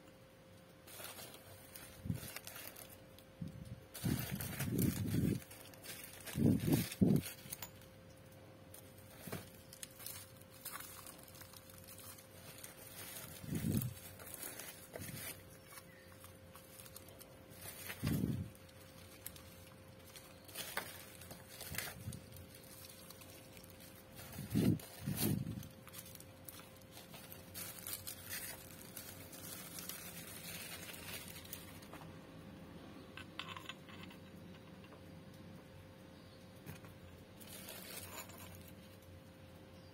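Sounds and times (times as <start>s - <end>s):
bubble wrap crinkling: 0.8s - 32.2s, 37.0s - 39.9s.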